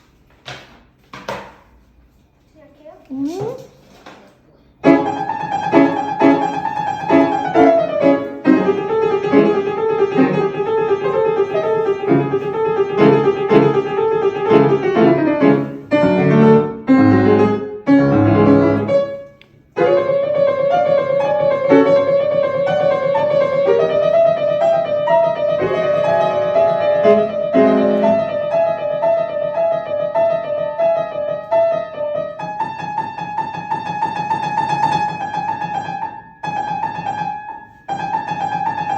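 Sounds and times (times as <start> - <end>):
piano melody: 4.8 - 38.9.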